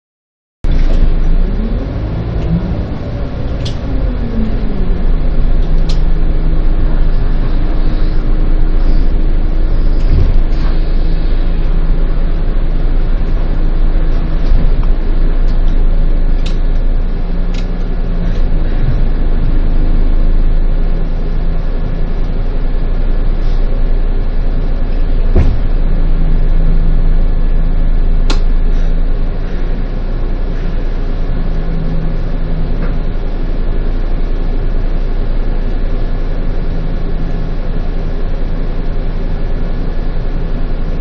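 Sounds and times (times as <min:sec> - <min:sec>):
bus engine running: 0:00.6 - 0:41.0
road rumble: 0:00.6 - 0:41.0.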